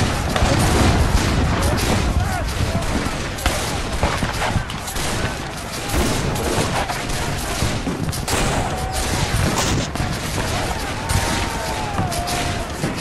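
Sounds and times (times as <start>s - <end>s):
rapid gunfire: 0.0s - 13.0s.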